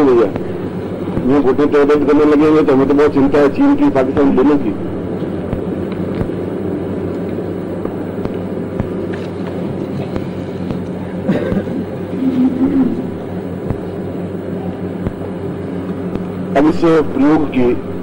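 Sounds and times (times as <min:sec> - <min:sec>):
low hum and rumble: 0:00.0 - 0:18.0.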